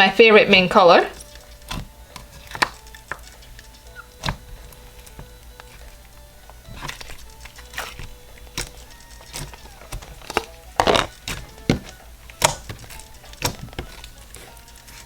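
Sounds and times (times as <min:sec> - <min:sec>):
slime beads crackling and popping: 0:00.5 - 0:15.0.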